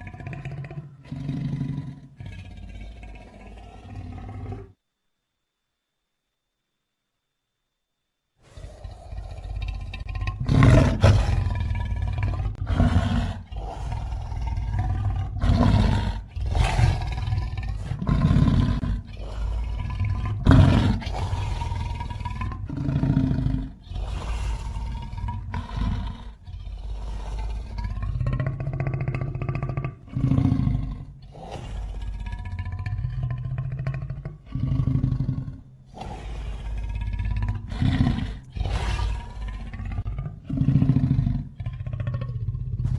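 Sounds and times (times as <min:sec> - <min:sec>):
deep monster roars: 0:00.0 - 0:04.7, 0:08.5 - 0:42.9.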